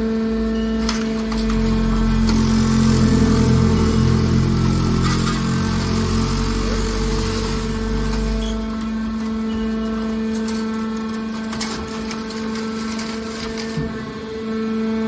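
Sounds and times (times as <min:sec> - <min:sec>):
hydraulic baler deep mechanical drone: 0:00.0 - 0:15.0.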